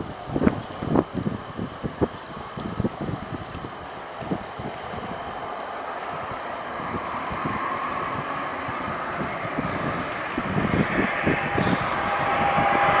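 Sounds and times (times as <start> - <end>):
distant jet engines rushing: 0.0 - 13.0
wind buffeting microphone: 0.0 - 13.0.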